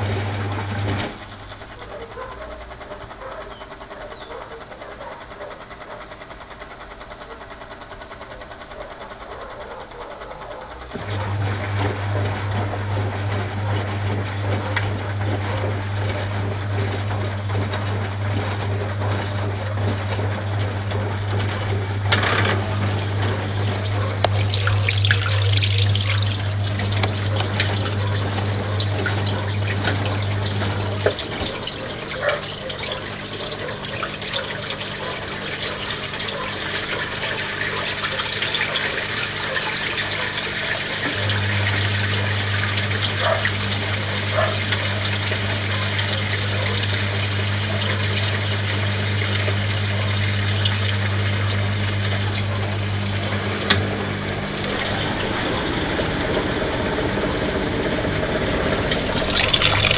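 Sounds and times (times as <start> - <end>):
washing machine low hum: 0.0 - 59.9
water sloshing in washing machine: 0.0 - 59.9.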